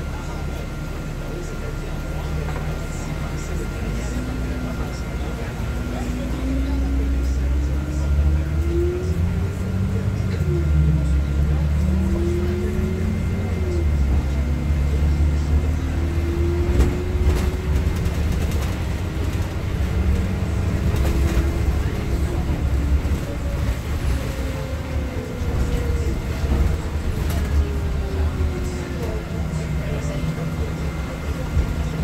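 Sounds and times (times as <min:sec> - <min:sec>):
bus engine drone: 0:00.0 - 0:32.0.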